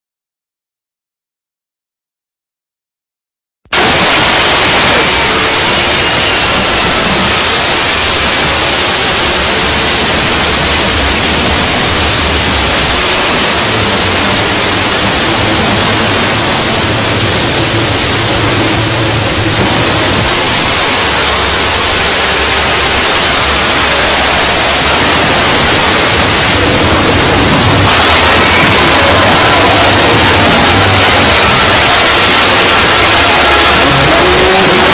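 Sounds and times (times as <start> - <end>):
loud harsh static hiss: 3.7 - 34.9
faint tones: 3.8 - 34.9
low hum: 3.8 - 34.9.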